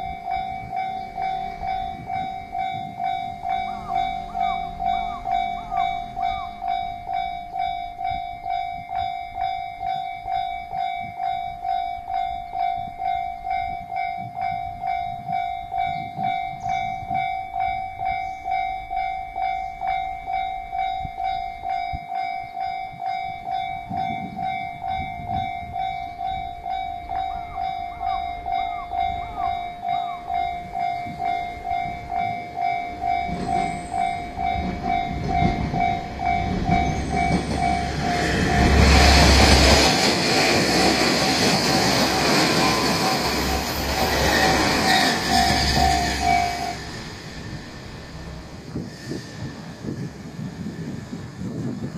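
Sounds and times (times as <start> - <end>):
level crossing warning bell: 0.0 - 48.8
diesel train rumbling: 0.0 - 51.9.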